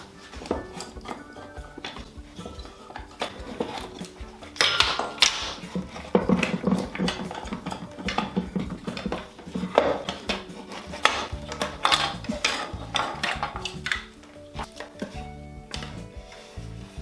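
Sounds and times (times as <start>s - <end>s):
clamps clattering and knocking: 0.0s - 16.1s.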